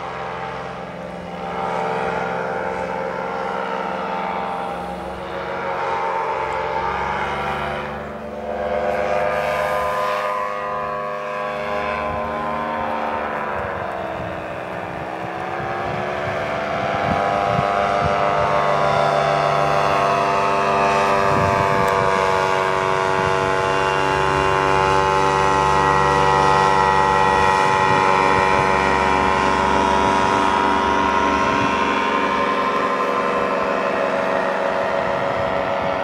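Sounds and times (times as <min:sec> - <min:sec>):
paramotor engine droning: 0:00.0 - 0:36.0.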